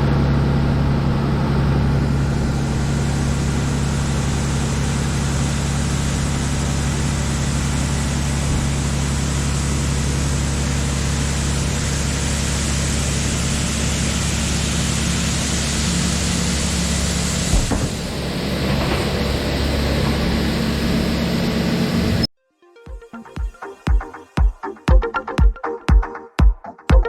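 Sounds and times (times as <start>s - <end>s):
combine harvester running: 0.0s - 22.3s.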